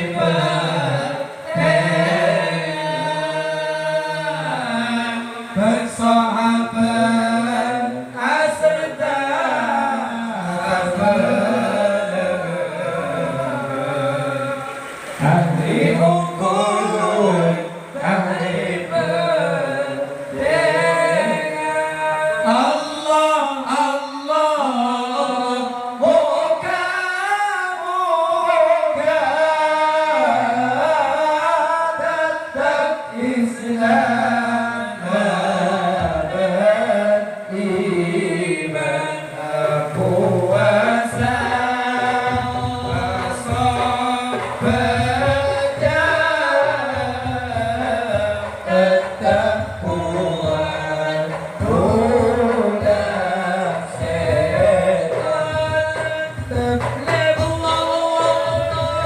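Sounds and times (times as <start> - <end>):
man singing devotional song: 0.0 - 59.0.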